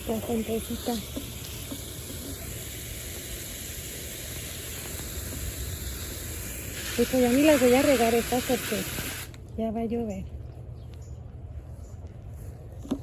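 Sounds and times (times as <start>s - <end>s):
steady outdoor hissing: 0.0s - 13.0s.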